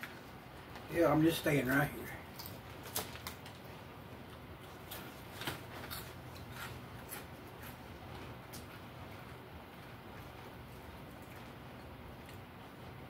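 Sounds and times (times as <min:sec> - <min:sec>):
faint low hum: 0:00.0 - 0:13.0
chewing crunches and lip smacks: 0:02.2 - 0:13.0.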